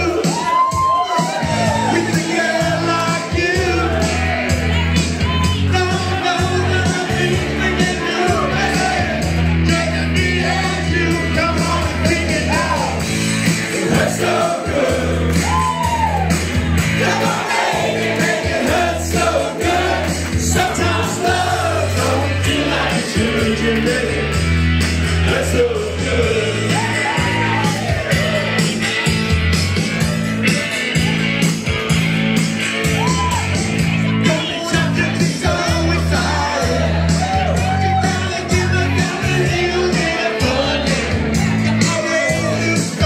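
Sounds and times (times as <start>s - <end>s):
backing track with bass line: 0.0s - 43.0s
crowd singing and cheering: 0.0s - 43.0s
group singing rock song: 1.4s - 15.6s, 16.4s - 28.2s, 34.2s - 43.0s.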